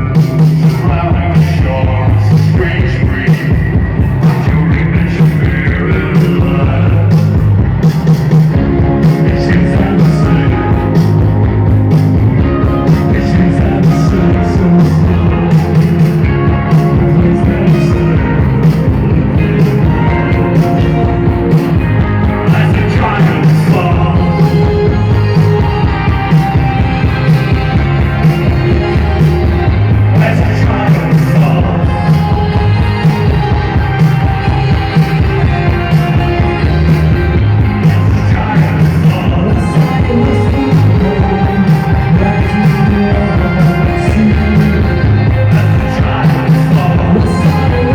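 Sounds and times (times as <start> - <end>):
driving drum beat: 0.0 - 47.9
live post-punk band: 0.0 - 47.9.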